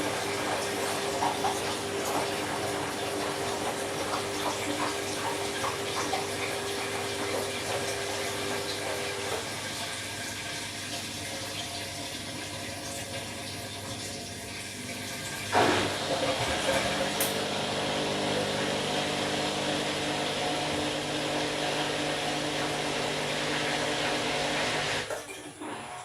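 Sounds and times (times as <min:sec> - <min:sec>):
water rushing into drum: 0:00.0 - 0:25.2
washing machine hum: 0:00.0 - 0:26.0.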